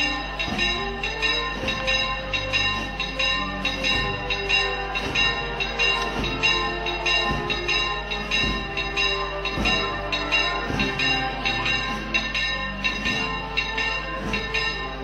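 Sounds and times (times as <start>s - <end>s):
church bells ringing rapid peal: 0.0s - 15.0s.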